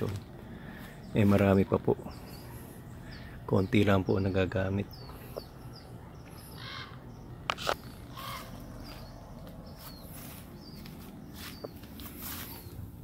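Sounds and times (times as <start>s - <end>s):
birds chirping: 0.0s - 13.0s
outdoor background noise: 0.0s - 13.0s.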